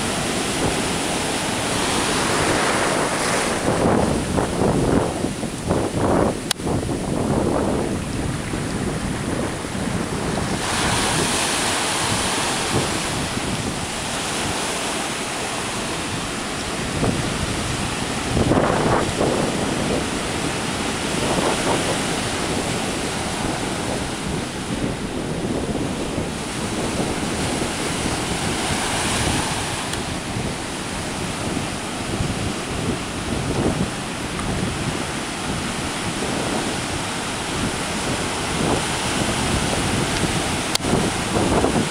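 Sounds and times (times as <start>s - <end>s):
ocean surf breaking: 0.0s - 41.9s
wind buffeting microphone: 0.0s - 41.9s.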